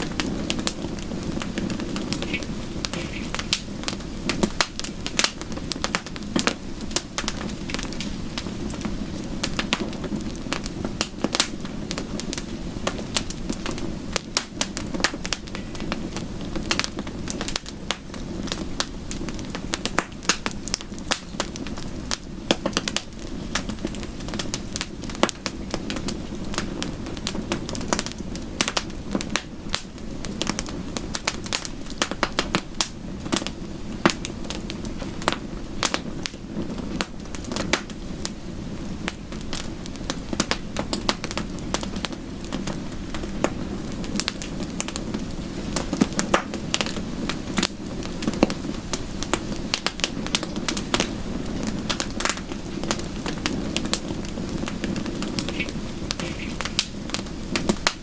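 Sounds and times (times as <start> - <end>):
soft rain: 0.0 - 58.0
wood fire crackling and popping: 0.0 - 58.0.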